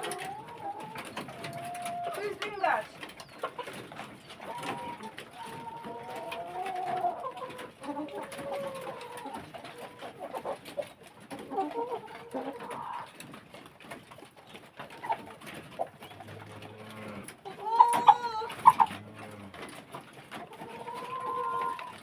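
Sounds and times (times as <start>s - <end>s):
hens clucking and calling: 0.0s - 22.0s.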